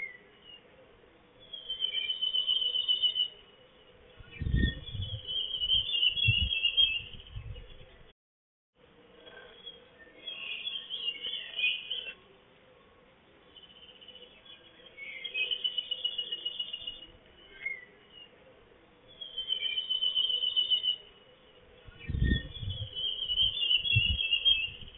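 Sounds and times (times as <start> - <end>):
birds singing: 0.0 - 8.1, 9.2 - 24.9.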